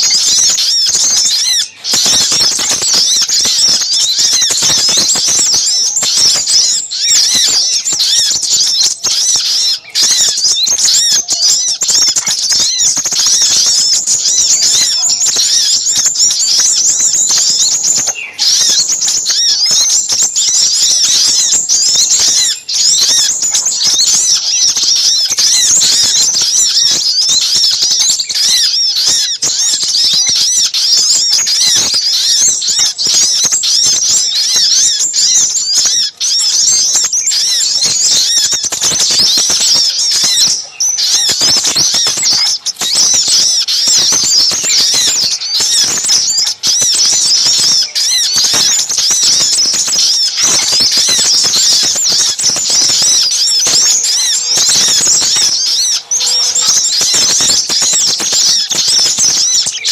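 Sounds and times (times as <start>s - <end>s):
small birds chattering chorus: 0.0s - 59.9s.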